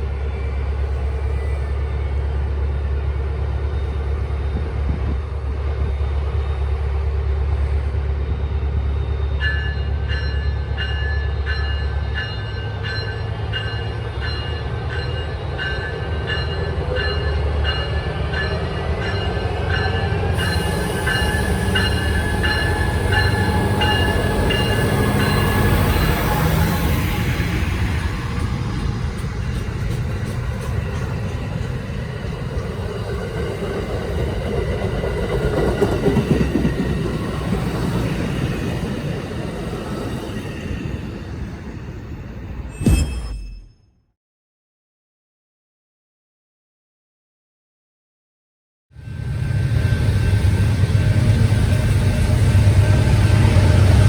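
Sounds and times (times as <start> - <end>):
train rumbling: 0.0 - 43.0, 49.0 - 54.0.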